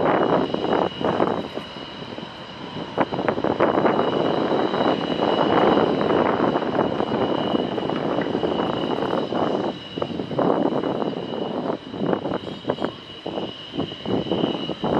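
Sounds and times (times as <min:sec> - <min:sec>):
high engine whine: 0:00.0 - 0:14.9
jet engines rumbling: 0:00.0 - 0:14.9.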